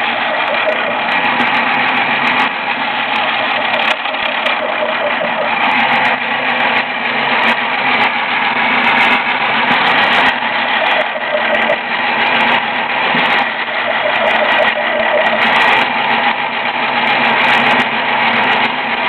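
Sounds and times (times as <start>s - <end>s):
drill press motor running: 0.0s - 19.0s.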